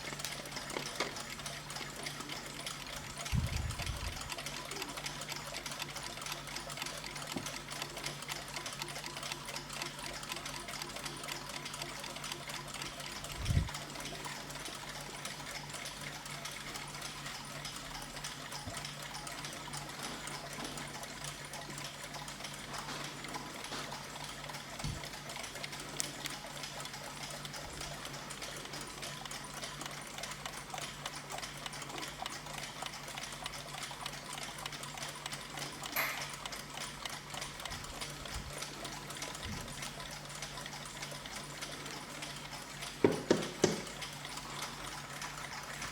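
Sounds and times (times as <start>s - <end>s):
mechanical clocks ticking: 0.0s - 45.9s.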